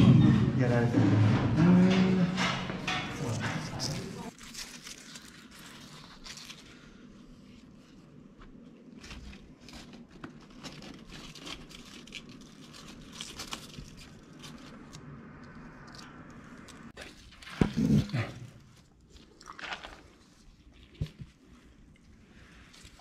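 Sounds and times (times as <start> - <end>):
orangutan chewing leafy greens: 2.4 - 23.0.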